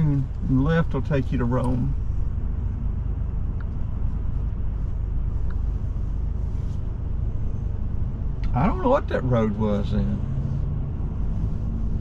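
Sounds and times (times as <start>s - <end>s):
low engine rumble: 0.0s - 12.0s
road noise: 0.0s - 12.0s.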